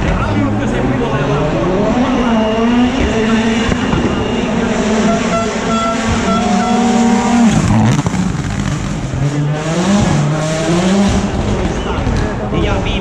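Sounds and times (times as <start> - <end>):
rally car engine revving: 0.0 - 13.0
tyre noise: 2.5 - 13.0.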